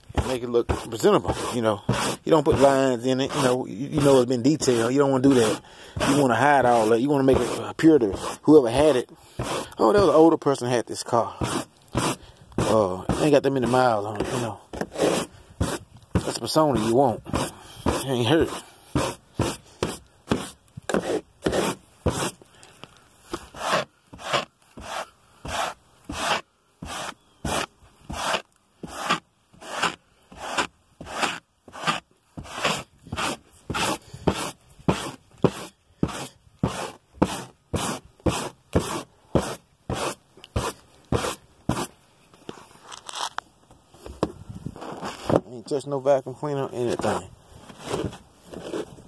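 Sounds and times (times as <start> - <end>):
bristle brush scrubbing: 0.0 - 22.5, 23.3 - 42.0.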